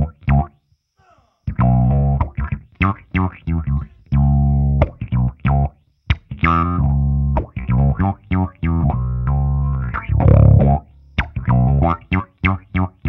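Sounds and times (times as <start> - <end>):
bass guitar through envelope filter: 0.0 - 0.6, 1.5 - 13.0.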